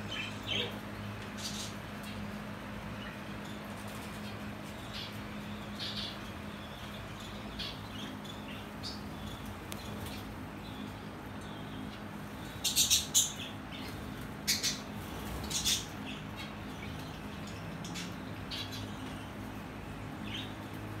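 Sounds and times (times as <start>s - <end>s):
lovebirds chirping and squawking: 0.0s - 20.9s.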